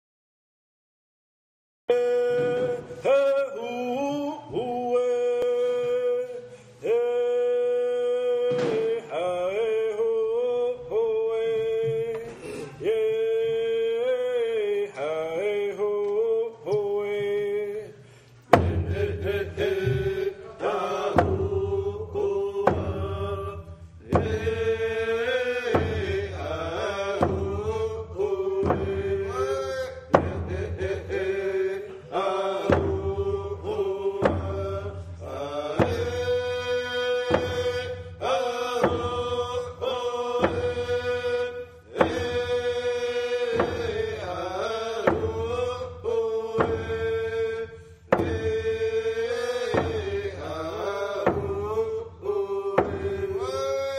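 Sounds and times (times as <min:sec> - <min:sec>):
men chanting: 0:01.9 - 0:53.9.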